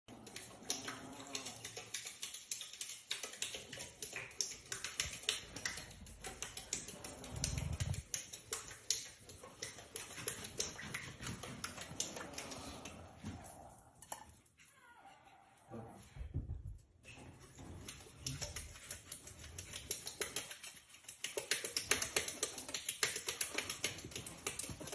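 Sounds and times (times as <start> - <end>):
puppy lapping water: 0.1 - 14.4, 17.3 - 24.9.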